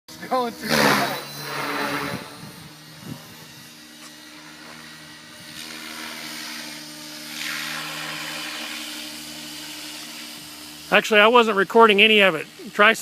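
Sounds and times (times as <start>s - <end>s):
rc helicopter rotor whine: 0.1s - 13.0s.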